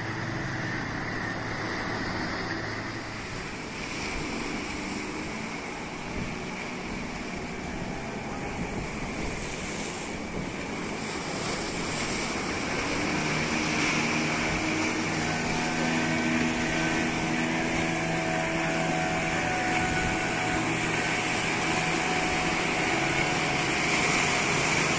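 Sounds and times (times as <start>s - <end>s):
boat engine running: 0.0s - 24.9s
surf: 0.0s - 24.9s.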